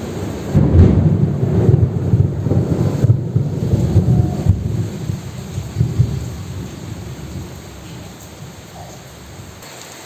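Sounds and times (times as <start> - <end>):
thunder rumbling: 0.0 - 9.6
heavy rain hissing: 0.0 - 10.0.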